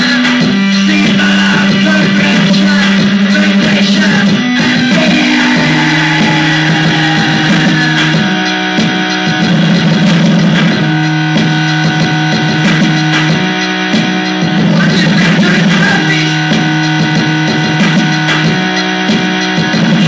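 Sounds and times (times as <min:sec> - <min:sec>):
live electronic music: 0:00.0 - 0:20.0
electric guitar drone: 0:00.1 - 0:20.0.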